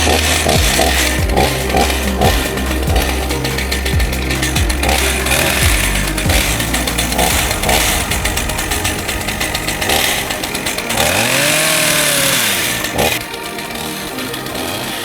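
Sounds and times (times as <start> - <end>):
chainsaw cutting wood: 0.0 - 13.9.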